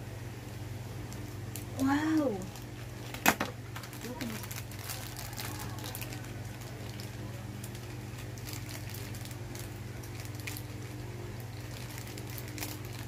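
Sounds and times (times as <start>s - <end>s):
steady low hum: 0.0s - 13.0s
plastic bag crinkling: 1.1s - 13.0s.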